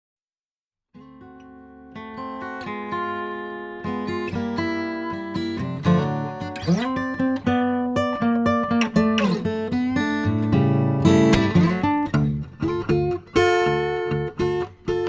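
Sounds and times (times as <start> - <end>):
instrumental guitar music: 0.9 - 15.0.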